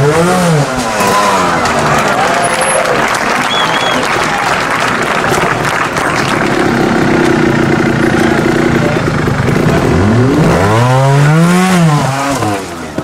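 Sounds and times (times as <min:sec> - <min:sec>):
motorcycle engine revving: 0:00.0 - 0:02.8, 0:04.9 - 0:13.0.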